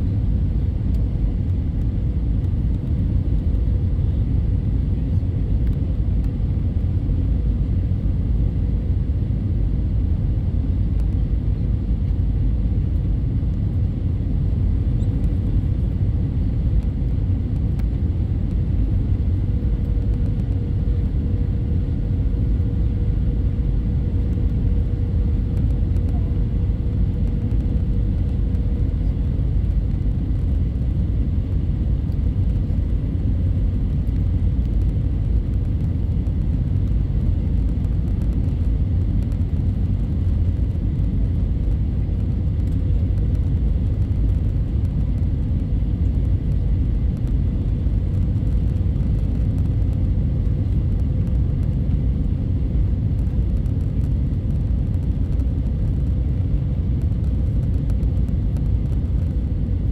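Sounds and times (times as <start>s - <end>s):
aircraft cabin rumble: 0.0s - 59.9s
faint steady hum: 0.0s - 59.9s.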